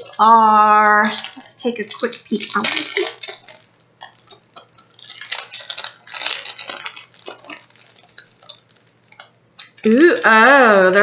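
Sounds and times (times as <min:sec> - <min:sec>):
clicks and crackles: 0:00.0 - 0:11.0
packaging crinkling and rustling: 0:00.0 - 0:11.0.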